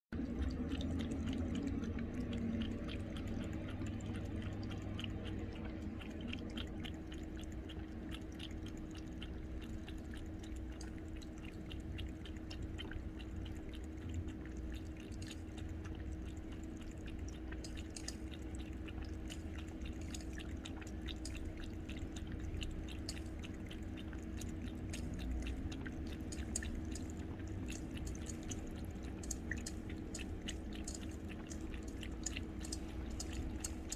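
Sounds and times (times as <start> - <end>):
cat lapping water: 0.1 - 33.9
steady low hum: 0.1 - 33.9.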